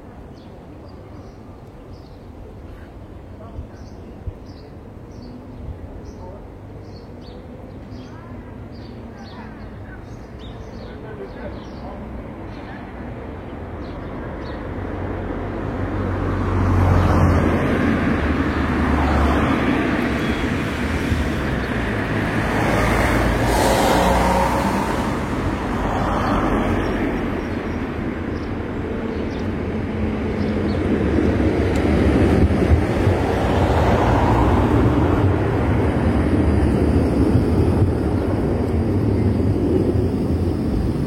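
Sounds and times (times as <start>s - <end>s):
tram rumbling: 0.0s - 41.0s.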